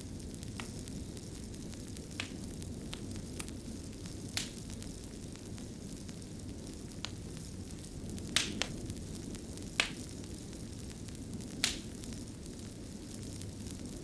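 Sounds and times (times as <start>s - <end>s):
fire crackles and pops: 0.0s - 14.0s
wood fire rumble and hiss: 0.0s - 14.0s.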